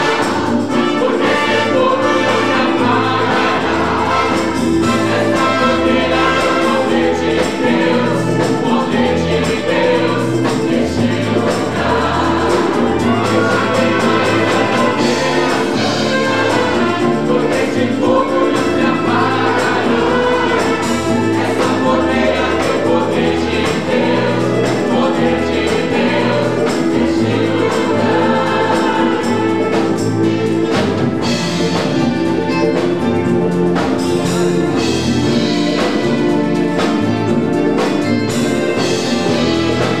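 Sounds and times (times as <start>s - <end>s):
choir singing gospel music: 0.0s - 40.0s
pulsing bass line: 0.0s - 40.0s.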